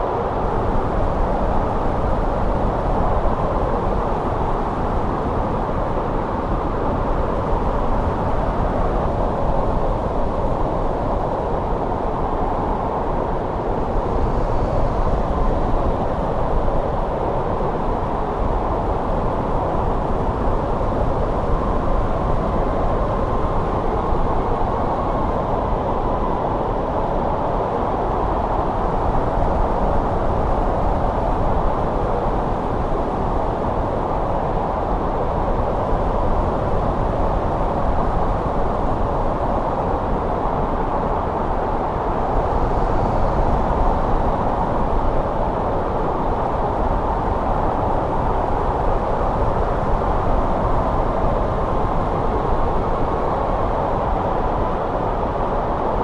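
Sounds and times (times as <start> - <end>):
snowstorm wind rushing: 0.0 - 56.0.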